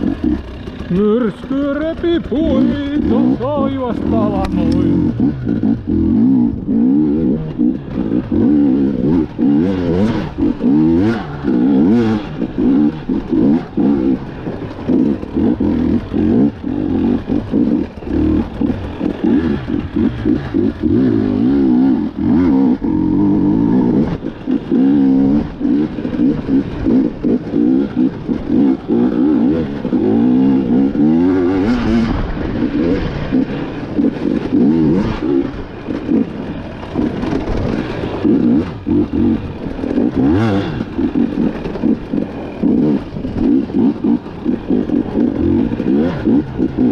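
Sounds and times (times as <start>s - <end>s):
two-stroke motorcycle engine revving: 0.0s - 46.9s.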